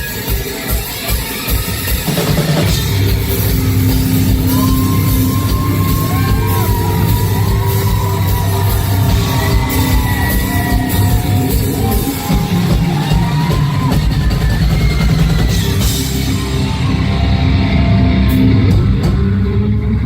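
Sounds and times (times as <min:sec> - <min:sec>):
loud live rock music: 0:00.0 - 0:20.0
bass guitar solo: 0:02.6 - 0:20.0.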